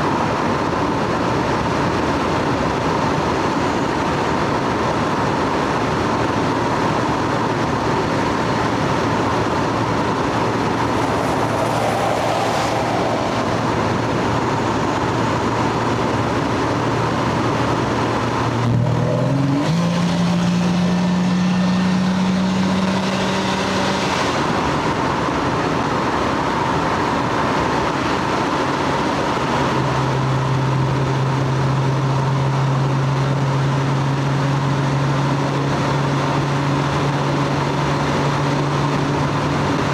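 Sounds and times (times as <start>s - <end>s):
car engine and exhaust drone: 0.0s - 39.9s.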